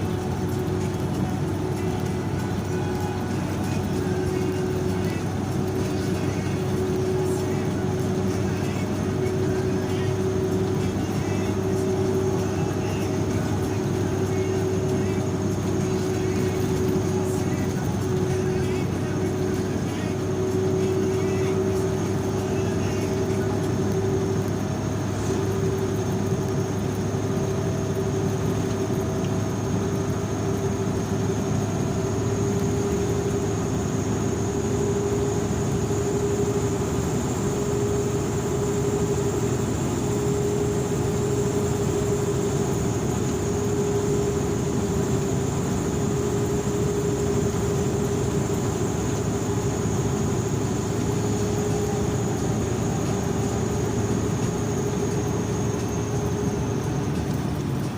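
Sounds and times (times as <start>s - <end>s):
faint high whine: 0.0s - 57.9s
vehicle engine and road drone: 0.0s - 57.9s.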